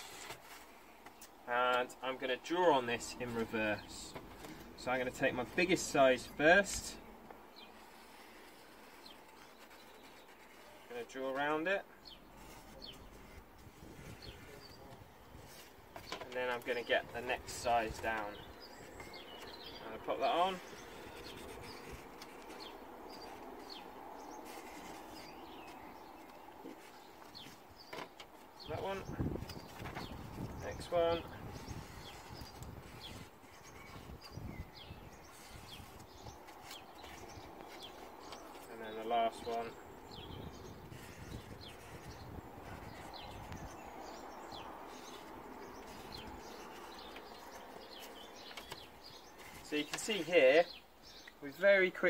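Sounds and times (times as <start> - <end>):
faint outdoor background: 0.0 - 52.0
small birds chirping: 0.0 - 52.0.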